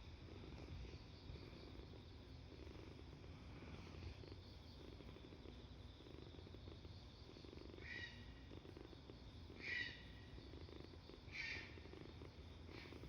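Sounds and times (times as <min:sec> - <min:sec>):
kitten purring: 0:00.0 - 0:13.0.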